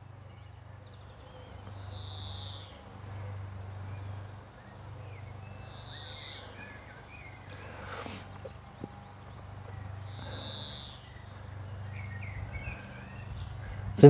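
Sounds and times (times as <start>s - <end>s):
drawn-out high bird calls: 0.0s - 14.0s
steady low hum: 0.0s - 14.0s.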